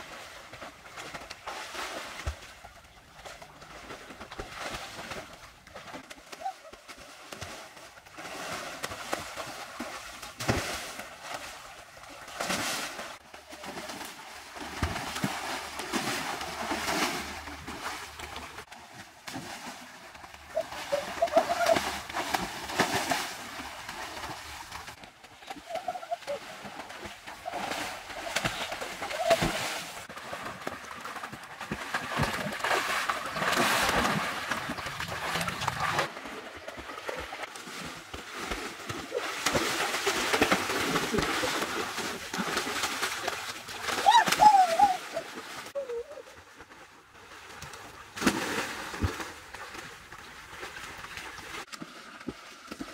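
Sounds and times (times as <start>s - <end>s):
water splashing from swimmers: 0.0s - 52.9s.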